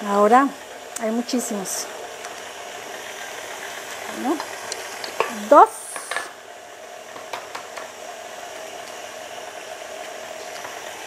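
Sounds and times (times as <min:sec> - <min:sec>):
stand mixer motor humming: 0:00.0 - 0:11.0.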